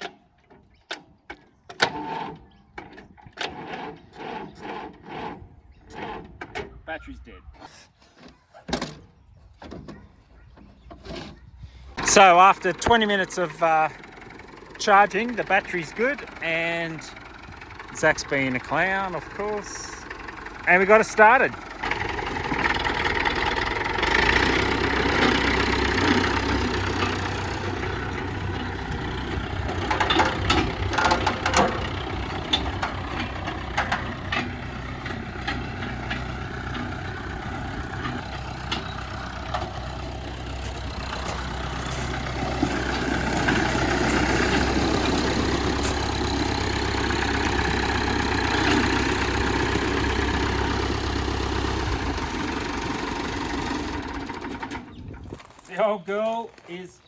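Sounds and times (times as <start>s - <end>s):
tractor engine idling: 9.6s - 55.9s.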